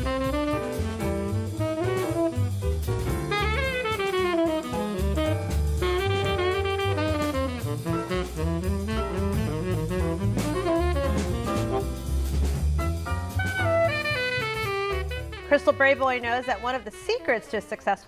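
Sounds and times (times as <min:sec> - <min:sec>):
bass notes: 0:00.0 - 0:17.4
drum kit: 0:00.0 - 0:17.4
horn melody: 0:00.0 - 0:17.9.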